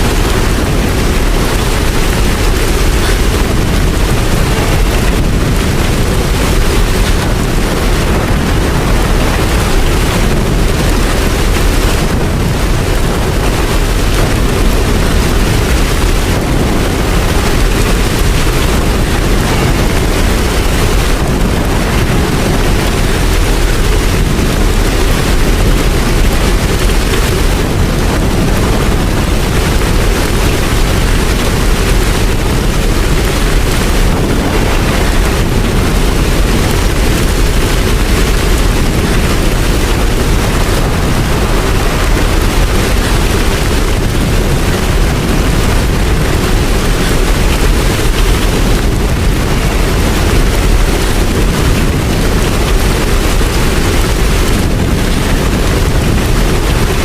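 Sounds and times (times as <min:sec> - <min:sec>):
deep rumble: 0:00.0 - 0:57.0
heavy rain: 0:00.0 - 0:57.0.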